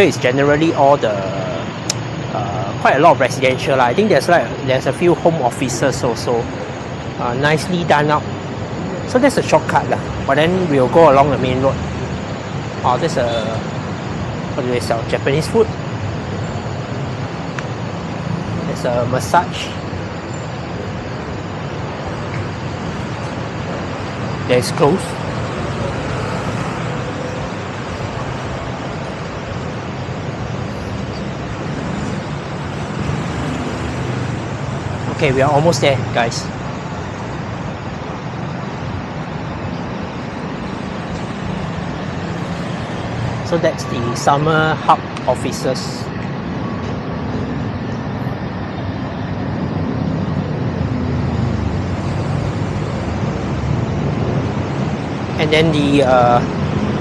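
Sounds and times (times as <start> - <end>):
road traffic noise: 0.0 - 57.0
tyres passing: 0.0 - 57.0
vehicle engines rumbling: 0.0 - 57.0.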